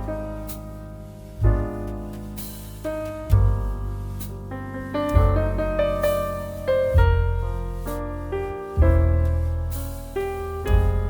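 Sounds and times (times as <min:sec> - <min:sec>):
piano music over bass: 0:00.0 - 0:11.0.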